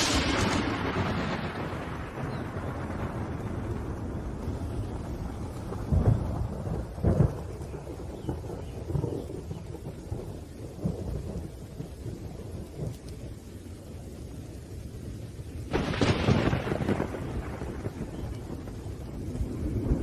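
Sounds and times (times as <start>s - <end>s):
loud thunder booms: 0.0s - 13.0s, 15.7s - 20.0s
steady rain: 0.0s - 20.0s
thunder rumbling: 0.0s - 20.0s.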